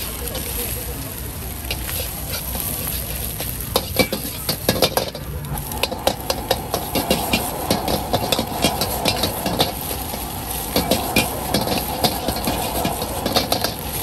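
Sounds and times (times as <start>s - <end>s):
food sizzling in wok: 0.0s - 14.0s
ladle clanking against wok: 1.7s - 14.0s
metal ladle scraping wok: 1.7s - 14.0s.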